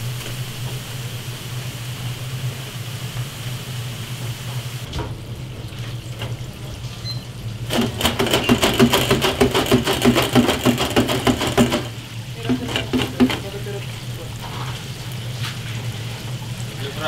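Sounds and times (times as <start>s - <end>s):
oil bubbling and crackling in fryer: 0.0s - 17.0s.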